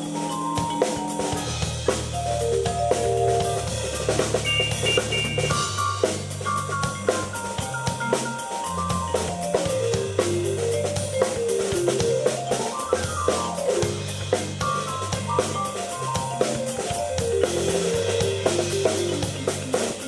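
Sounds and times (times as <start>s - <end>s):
drum kit beat: 0.0s - 20.0s
keyboard playing: 0.0s - 20.0s.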